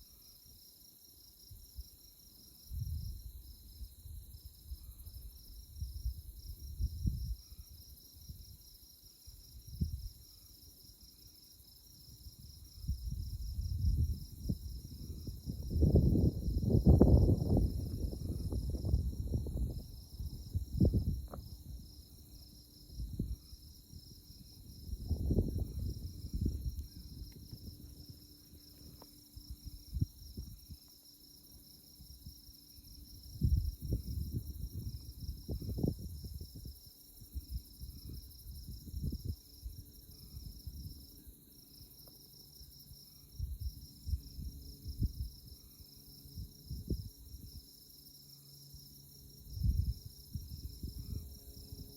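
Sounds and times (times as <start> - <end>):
crickets trilling: 0.0 - 51.9
high insect drone: 0.0 - 51.9
wind rumble on microphone: 1.4 - 10.9, 11.6 - 48.1, 48.7 - 51.9.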